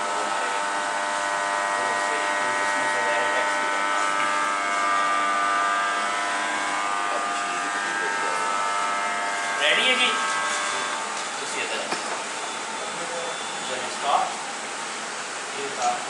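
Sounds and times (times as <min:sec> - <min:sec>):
electrical heater humming: 0:00.0 - 0:16.0.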